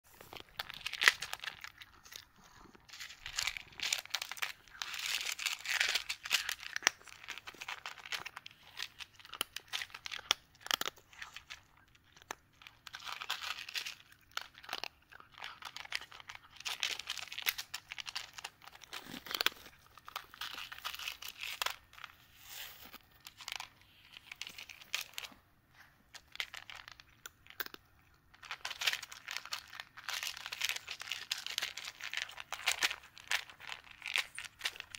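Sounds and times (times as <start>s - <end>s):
cat crunching dry kibble: 0.1s - 34.9s.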